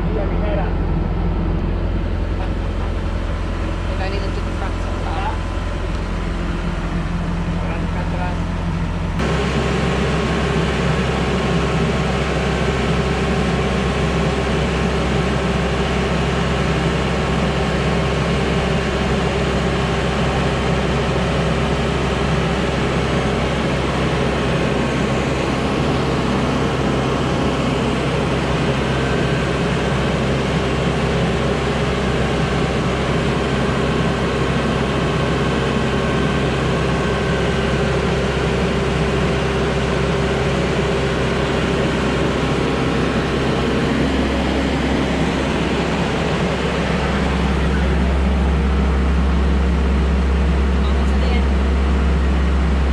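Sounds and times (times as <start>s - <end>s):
travel lift engine and hydraulics: 0.0s - 52.9s.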